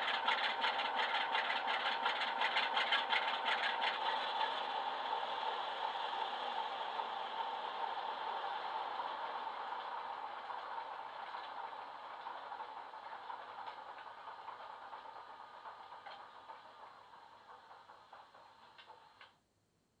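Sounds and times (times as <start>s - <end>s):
diesel engine sound from speaker: 0.0s - 18.7s.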